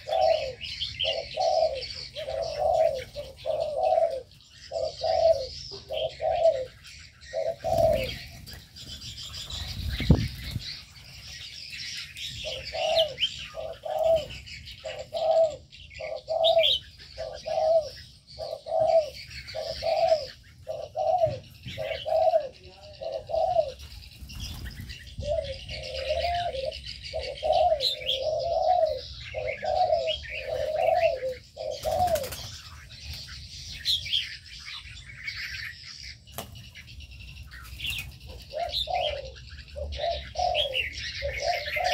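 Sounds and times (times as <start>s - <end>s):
doves cooing: 0.0s - 41.9s
small birds chirping: 0.0s - 41.9s.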